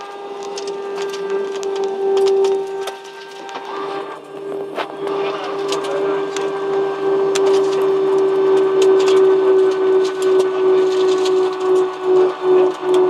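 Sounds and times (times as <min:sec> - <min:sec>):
jet engine hum: 0:00.0 - 0:13.0.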